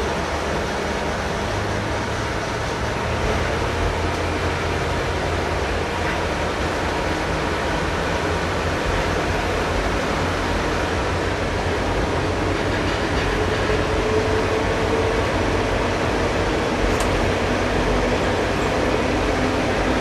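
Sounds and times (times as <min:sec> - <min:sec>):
diesel engine drone: 0:00.0 - 0:20.0
wheel and rail running noise: 0:00.0 - 0:20.0.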